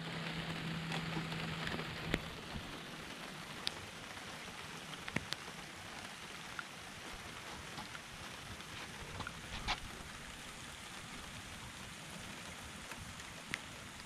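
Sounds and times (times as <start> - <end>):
light drizzle hissing: 0.0 - 14.0
low steady hum: 0.0 - 14.0
raindrop ticks: 0.0 - 14.0.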